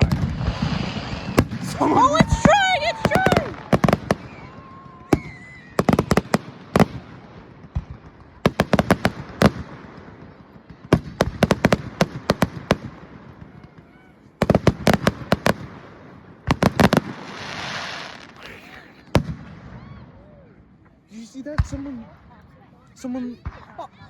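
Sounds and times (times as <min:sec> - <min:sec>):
fireworks cracking and popping: 0:00.0 - 0:20.0.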